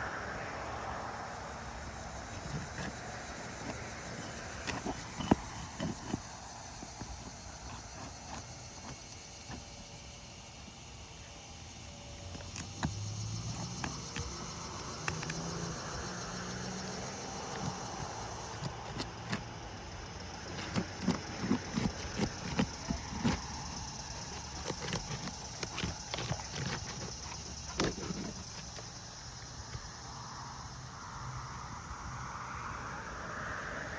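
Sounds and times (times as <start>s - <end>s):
tool scraping under shingles: 2.1s - 30.2s.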